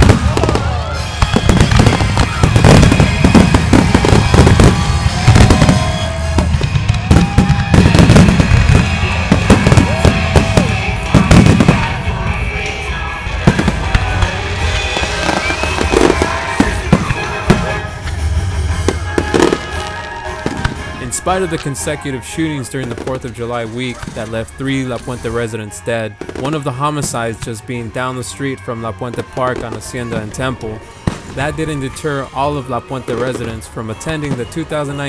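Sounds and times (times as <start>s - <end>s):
fireworks bursting and crackling: 0.0s - 27.7s, 28.9s - 35.0s
music: 0.0s - 35.0s.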